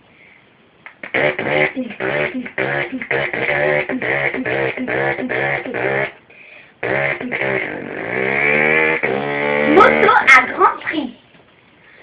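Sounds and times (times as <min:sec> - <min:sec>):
boy imitating engine with voice: 0:00.8 - 0:06.2, 0:06.8 - 0:11.0.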